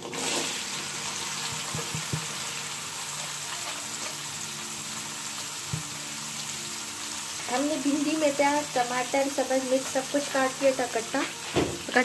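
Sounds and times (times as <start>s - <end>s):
okra sizzling in hot ghee: 0.0s - 12.0s.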